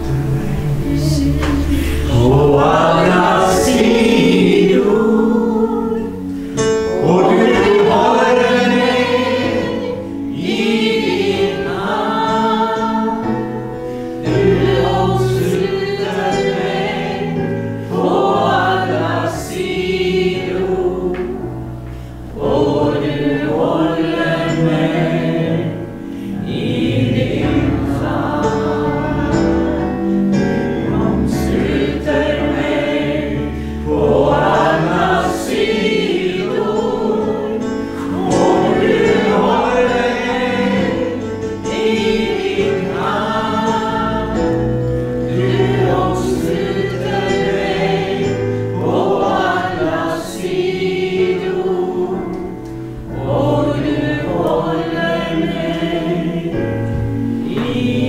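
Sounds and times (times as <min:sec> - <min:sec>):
instrumental accompaniment: 0:00.0 - 0:58.0
voices singing worship song: 0:00.0 - 0:58.0.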